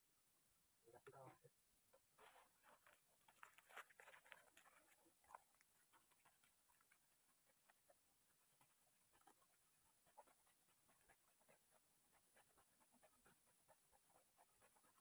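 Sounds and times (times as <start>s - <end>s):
faint irregular ticks: 2.7s - 15.0s.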